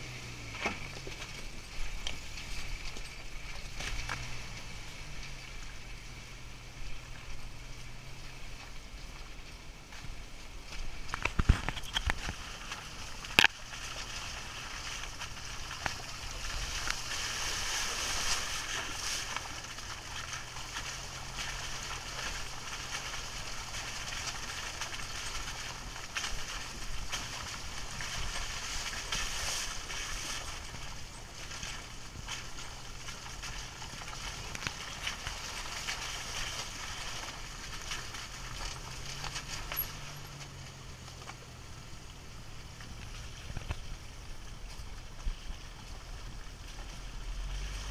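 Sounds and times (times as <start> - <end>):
low engine drone: 0.0 - 47.9
tyres crunching over stones and mud: 0.0 - 47.9.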